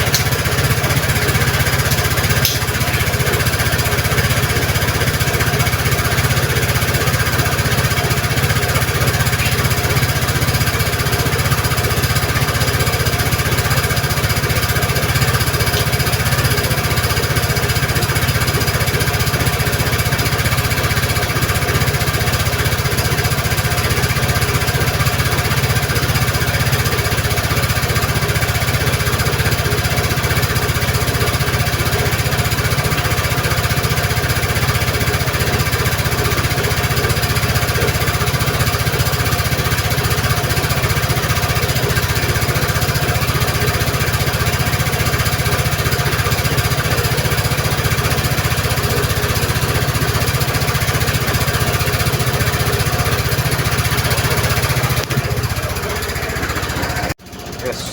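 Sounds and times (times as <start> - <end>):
scooter engine idling: 0.0 - 57.9.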